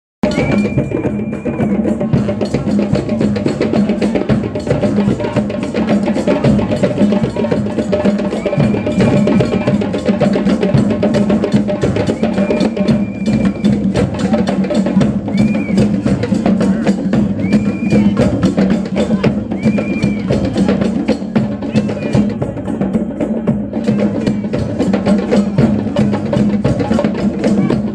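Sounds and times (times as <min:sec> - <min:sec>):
fast percussion music: 0:00.2 - 0:27.9.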